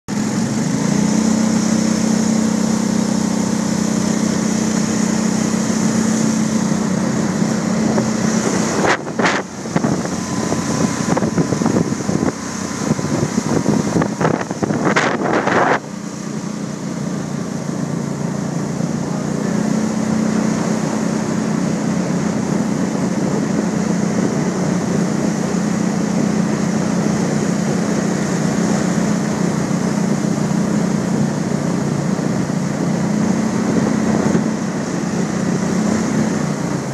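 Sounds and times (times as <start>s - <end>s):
boat motor droning: 0.1s - 36.9s.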